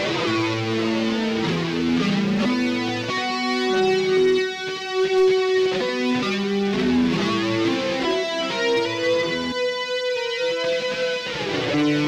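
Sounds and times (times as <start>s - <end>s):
electric guitar slow melody: 0.0s - 12.0s.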